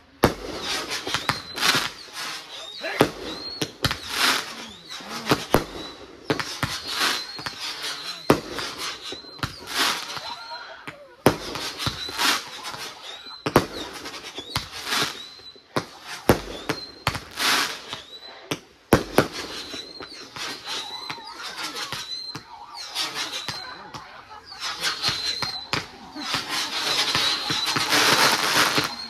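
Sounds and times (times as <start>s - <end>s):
fireworks bangs: 0.0s - 29.0s
fireworks hissing: 0.0s - 29.0s.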